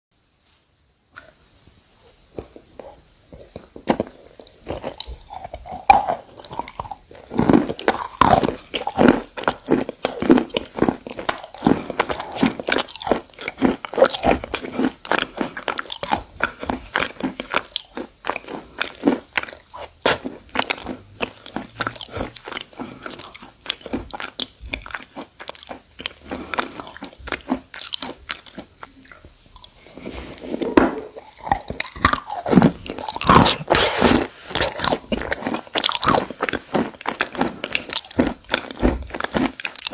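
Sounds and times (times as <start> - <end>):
chewing brittle chunks: 2.4 - 39.9.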